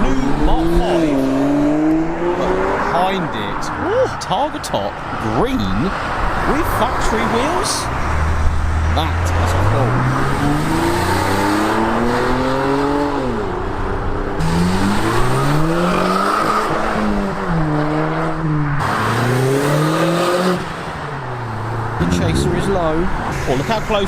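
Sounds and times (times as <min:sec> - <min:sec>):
car engine revving: 0:00.0 - 0:03.3, 0:05.9 - 0:24.0.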